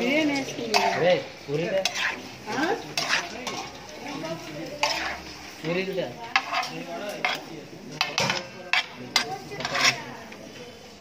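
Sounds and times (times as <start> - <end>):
metal utensils clinking and scraping: 0.0 - 10.4.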